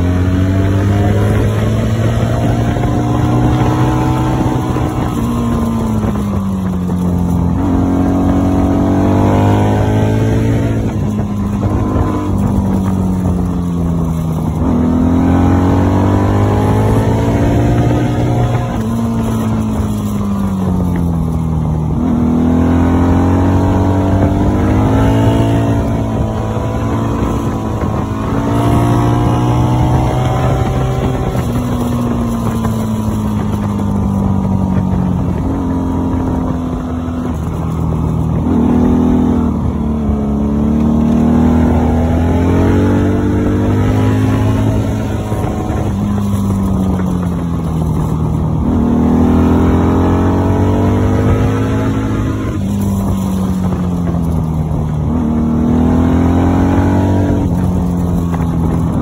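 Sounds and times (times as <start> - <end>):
motorcycle engine revving: 0.0 - 59.0
road and wind noise: 0.0 - 59.0.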